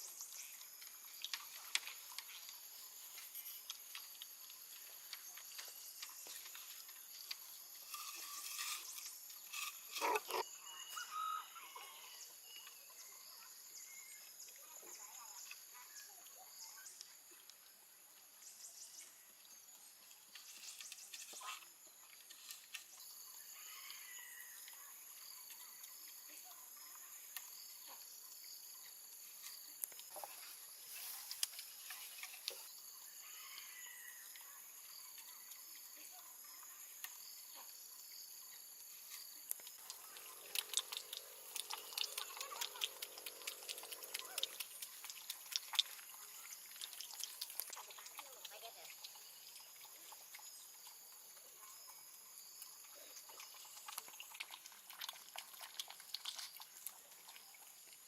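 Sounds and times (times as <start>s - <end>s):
pulsed insect call: 0.0s - 17.0s, 20.4s - 58.0s
insects droning: 0.0s - 58.0s.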